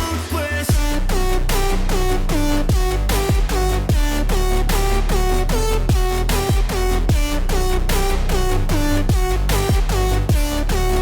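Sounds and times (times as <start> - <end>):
electronic music with steady beat: 0.0 - 11.0
deep kick drums: 0.7 - 11.0.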